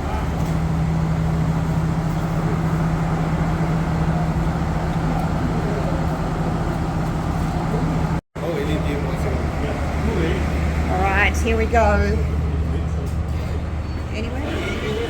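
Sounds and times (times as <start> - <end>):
diesel train engine idling: 0.0 - 15.0.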